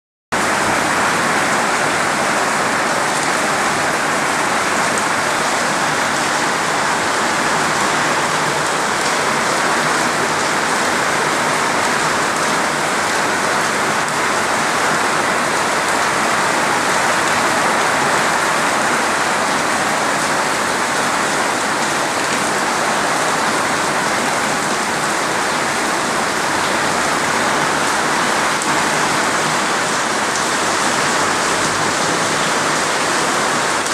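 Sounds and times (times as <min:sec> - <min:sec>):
heavy rain pattering: 0:00.4 - 0:33.9.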